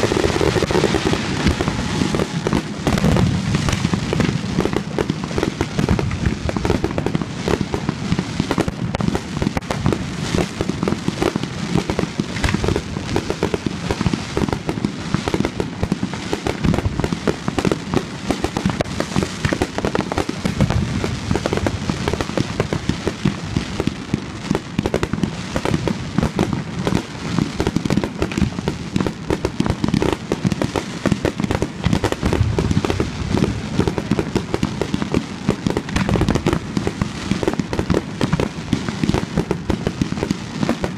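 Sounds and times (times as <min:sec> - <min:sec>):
fireworks bursting: 0:00.0 - 0:40.9.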